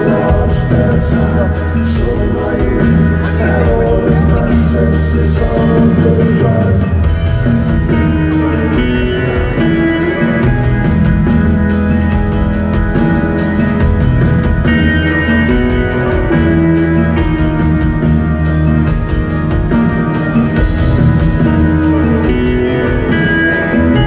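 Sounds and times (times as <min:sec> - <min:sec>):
live rock band playing: 0:00.0 - 0:24.0
steady drum beat: 0:00.0 - 0:24.0.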